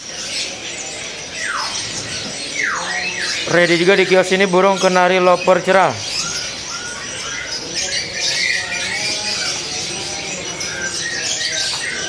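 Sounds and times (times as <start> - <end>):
caged birds chirping chorus: 0.0 - 12.0.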